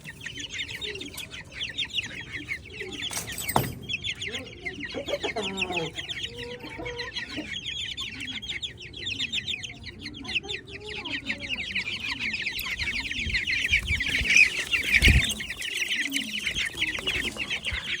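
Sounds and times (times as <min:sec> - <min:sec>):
chickens clucking: 0:00.0 - 0:18.0
flock of small birds chirping: 0:00.0 - 0:18.0.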